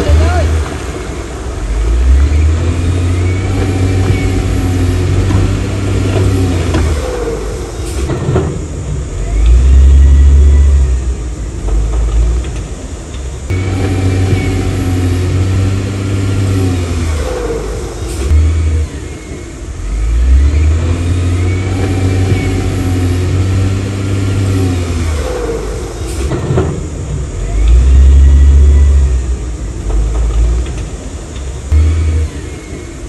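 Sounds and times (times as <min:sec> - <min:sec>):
heavy diesel engine revving: 0:00.0 - 0:33.0.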